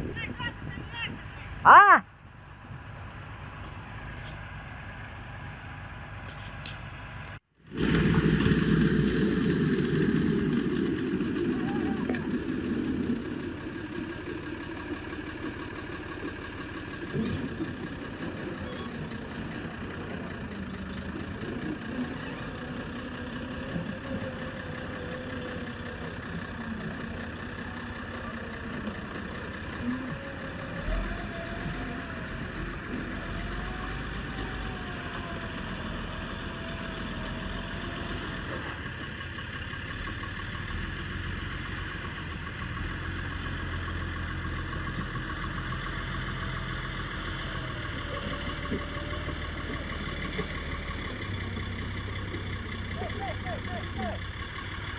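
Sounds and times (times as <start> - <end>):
heavy vehicle engine running: 0.0 - 54.9.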